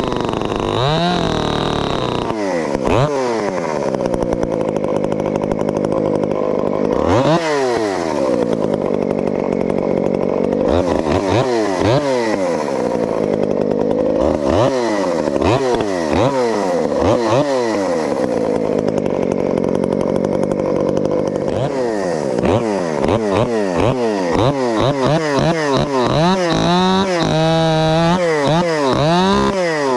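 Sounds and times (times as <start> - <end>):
chainsaw revving: 0.0 - 29.9.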